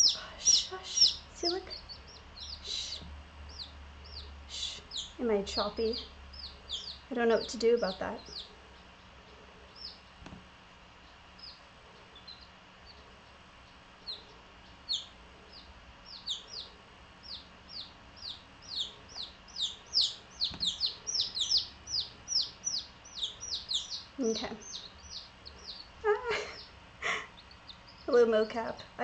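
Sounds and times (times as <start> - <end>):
chicks peeping: 0.0 - 28.8.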